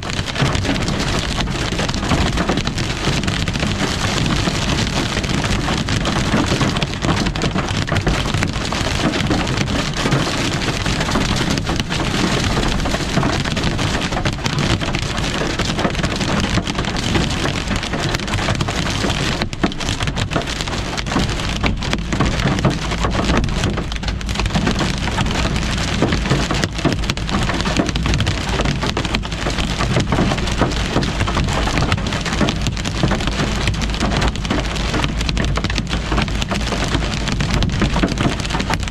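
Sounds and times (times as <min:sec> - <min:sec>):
rain and hail on car roof: 0:00.0 - 0:38.9.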